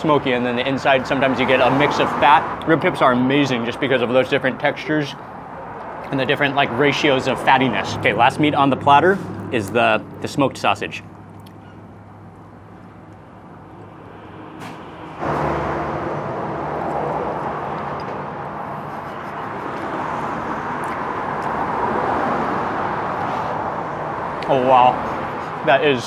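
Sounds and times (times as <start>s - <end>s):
rushing outdoor background noise: 0.0s - 26.0s.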